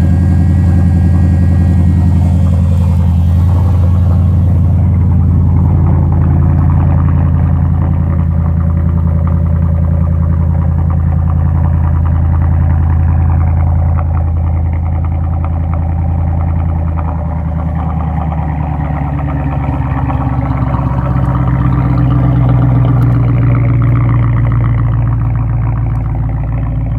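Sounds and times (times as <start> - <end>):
car engine idling loudly: 0.0 - 26.9.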